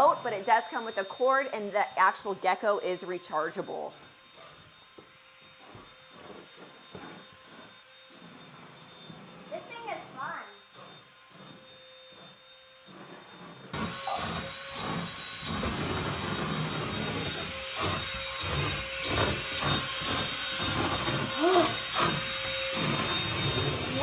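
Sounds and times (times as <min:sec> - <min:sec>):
toy suction fan whirring: 0:00.0 - 0:24.0.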